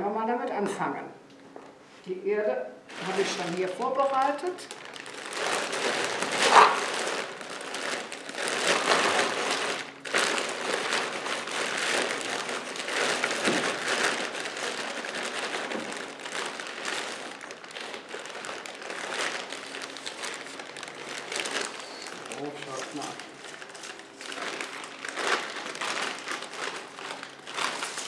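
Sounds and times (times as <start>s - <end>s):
plastic bag crinkling: 2.9s - 28.0s.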